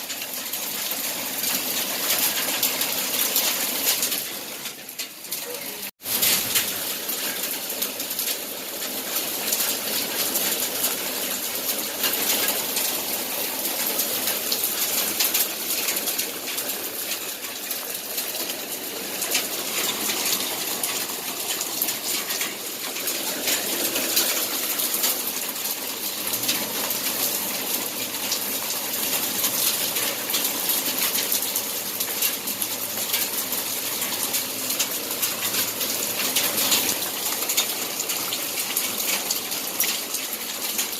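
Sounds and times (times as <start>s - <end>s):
hailstones ticking: 0.0s - 40.9s
rainfall hiss: 0.0s - 40.9s.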